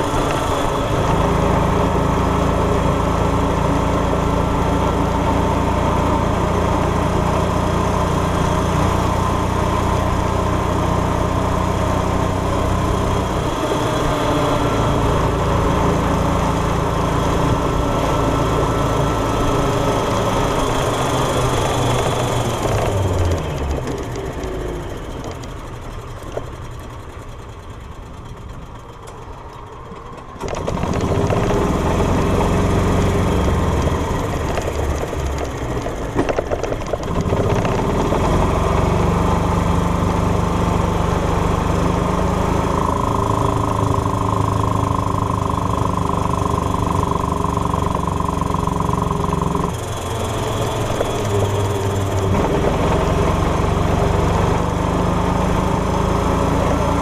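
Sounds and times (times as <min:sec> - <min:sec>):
golf cart engine running: 0:00.0 - 0:57.0.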